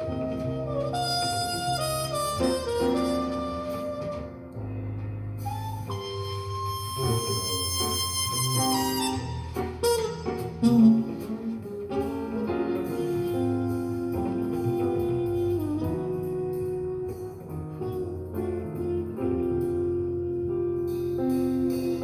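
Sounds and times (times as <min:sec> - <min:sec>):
instrumental music through amplifier: 0:00.0 - 0:22.0.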